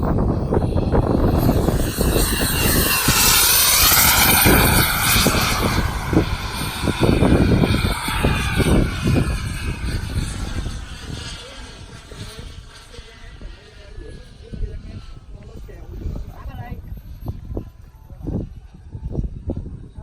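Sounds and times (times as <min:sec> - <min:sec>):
low rumble: 0:00.0 - 0:20.0
model jet turbine whining: 0:00.0 - 0:20.0.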